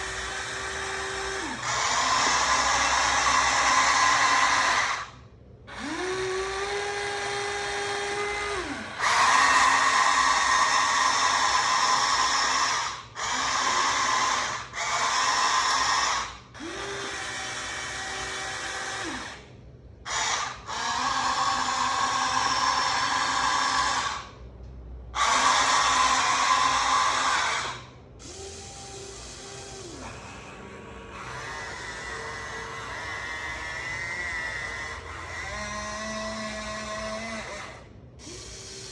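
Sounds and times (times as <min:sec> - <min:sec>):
electric gear motors whirring: 0:00.0 - 0:19.5, 0:20.1 - 0:24.4, 0:25.2 - 0:38.9.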